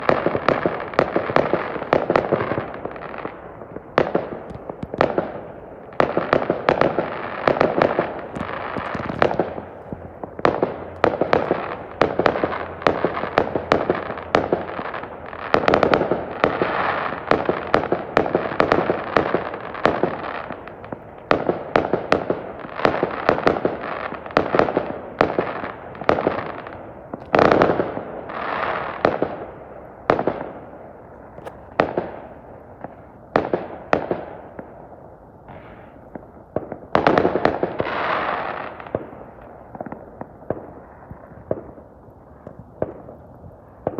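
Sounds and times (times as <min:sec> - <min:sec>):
fireworks crackling: 0:00.0 - 0:43.9
fireworks sharp bangs: 0:00.0 - 0:43.9.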